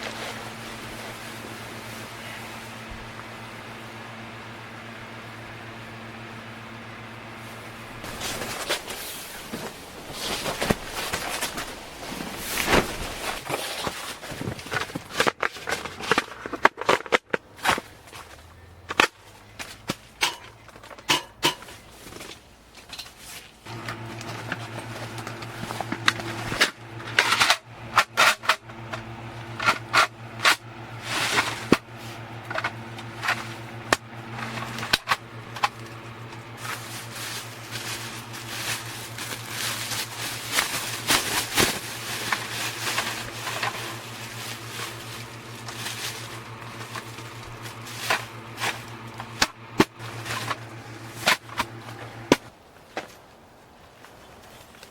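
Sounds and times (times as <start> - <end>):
steady low hum: 0.0 - 16.8, 17.6 - 52.7.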